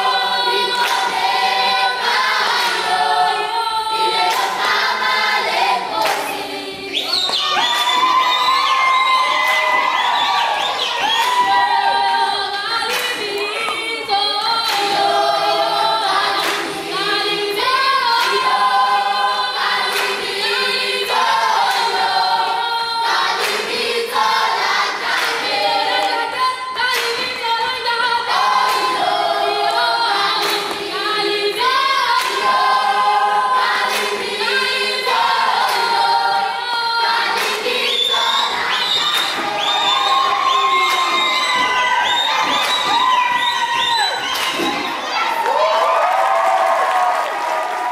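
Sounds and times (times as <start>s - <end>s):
children's choir singing: 0.0s - 45.7s.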